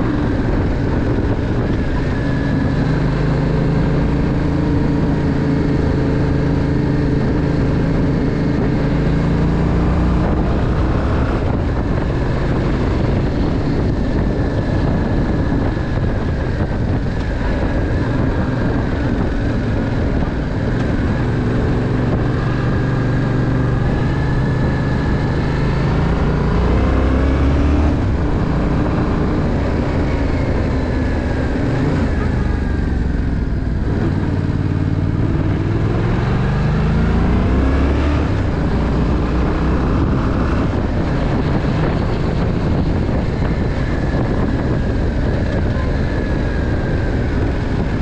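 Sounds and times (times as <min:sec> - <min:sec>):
motorcycle engine revving: 0:00.0 - 0:48.0
wind and road noise: 0:00.0 - 0:48.0.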